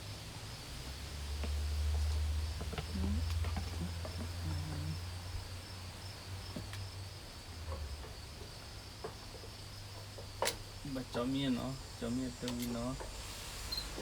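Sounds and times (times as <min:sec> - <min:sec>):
high-pitched insect trill: 0:01.2 - 0:13.0, 0:13.6 - 0:14.0.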